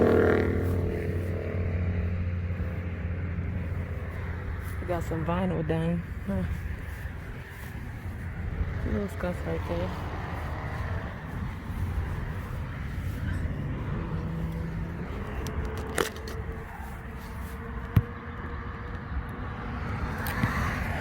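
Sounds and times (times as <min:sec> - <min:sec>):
low rumble of vehicle traffic: 0:00.0 - 0:21.0.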